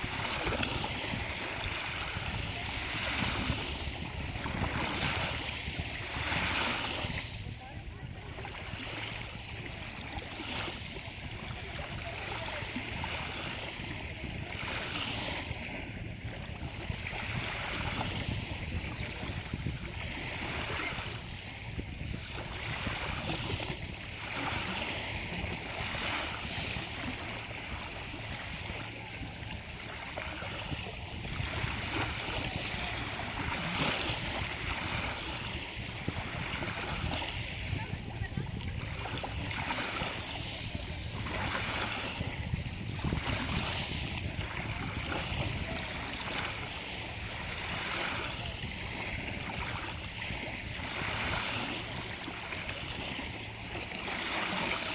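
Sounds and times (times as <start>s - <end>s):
stream water running: 0.0s - 54.9s.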